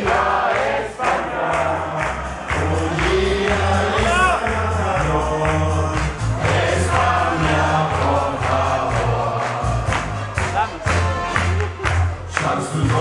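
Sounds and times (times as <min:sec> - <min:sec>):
men singing in chorus: 0:00.0 - 0:10.5, 0:12.3 - 0:13.0
steady beat: 0:00.0 - 0:13.0.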